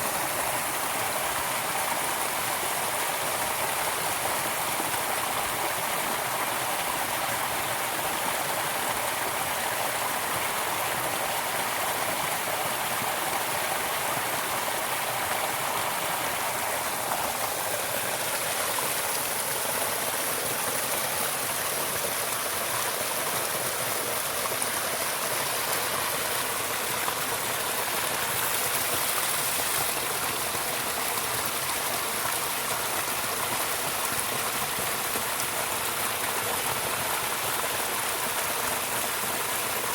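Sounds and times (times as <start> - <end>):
steady water noise: 0.0 - 39.9.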